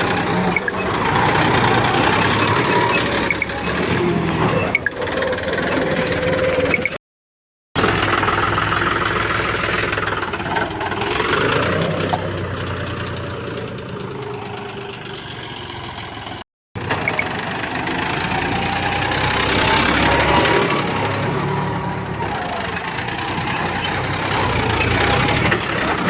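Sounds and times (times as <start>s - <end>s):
tractor engine revving: 0.0s - 7.0s, 7.8s - 26.0s.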